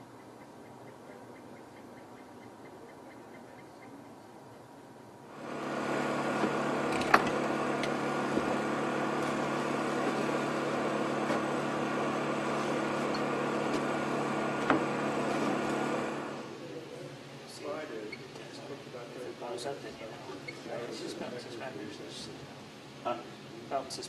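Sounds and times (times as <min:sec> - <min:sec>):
mechanical hum: 0:00.0 - 0:24.0.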